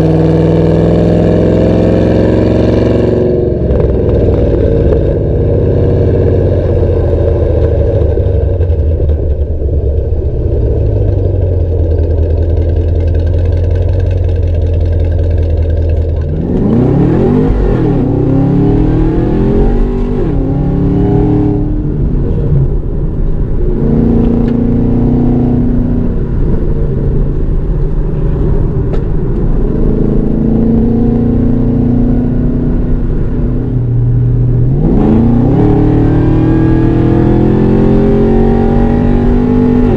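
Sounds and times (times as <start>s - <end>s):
car engine revving: 0.0s - 39.9s
exhaust drone: 0.0s - 39.9s.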